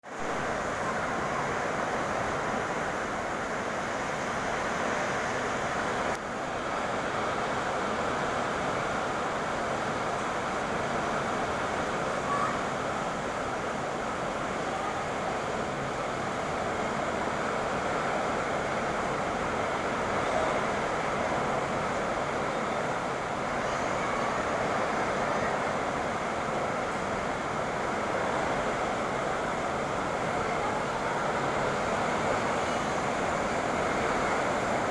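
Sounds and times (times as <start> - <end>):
hiss of falling water spray: 0.1 - 34.9.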